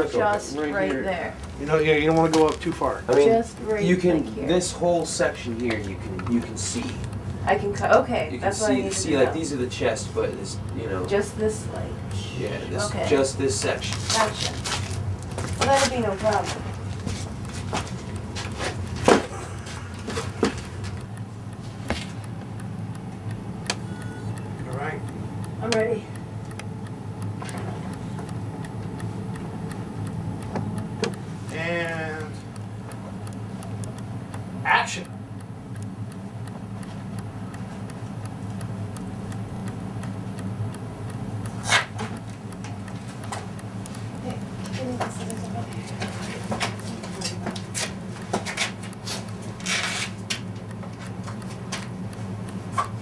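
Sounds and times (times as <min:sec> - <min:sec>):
faint ticking: 0:00.0 - 0:53.0
steady low hum: 0:00.0 - 0:53.0.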